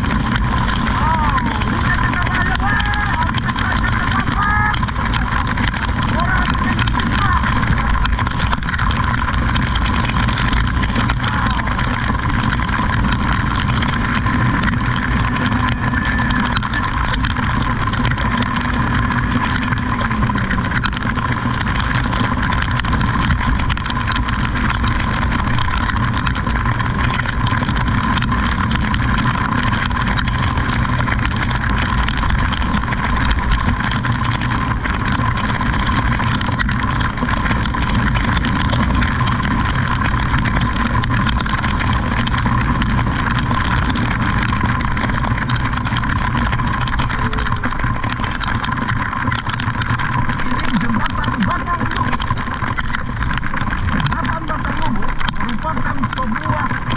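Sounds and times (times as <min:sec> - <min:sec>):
thin steady whine: 0:00.0 - 0:56.9
vehicle engine and road noise: 0:00.0 - 0:56.9.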